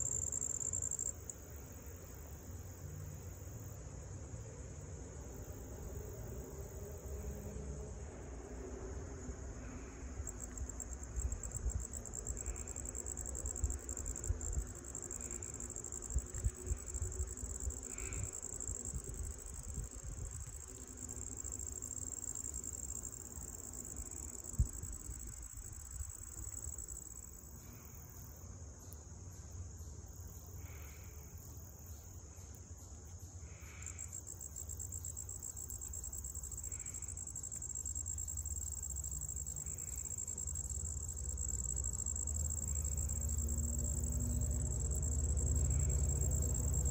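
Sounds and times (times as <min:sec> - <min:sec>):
insects trilling: 0:00.0 - 0:03.8, 0:09.7 - 0:46.9.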